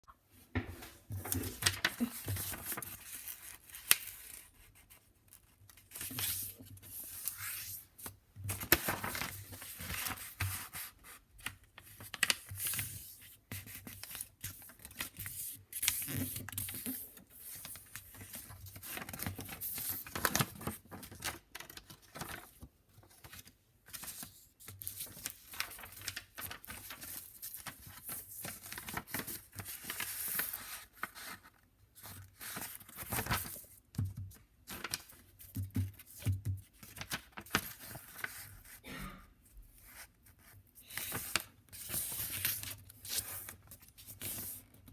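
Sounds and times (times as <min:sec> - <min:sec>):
paper rustling and creasing: 0:00.7 - 0:38.8, 0:39.8 - 0:44.9.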